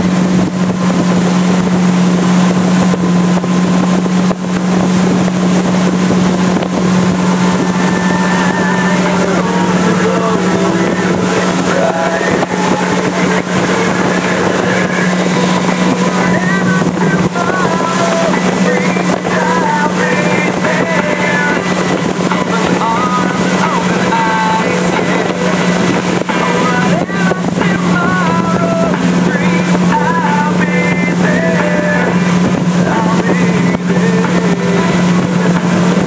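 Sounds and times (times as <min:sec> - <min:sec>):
boat engine droning: 0:00.0 - 0:36.0
wind noise on microphone: 0:00.0 - 0:36.0.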